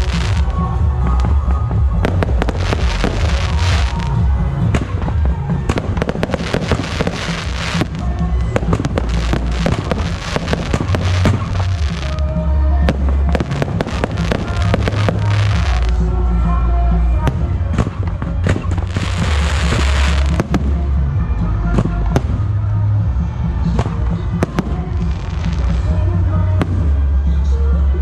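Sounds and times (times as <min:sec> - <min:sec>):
fireworks bursting and crackling: 0:00.0 - 0:16.1, 0:17.1 - 0:22.6, 0:23.5 - 0:27.0
low rumble: 0:00.0 - 0:28.0
music: 0:00.0 - 0:28.0.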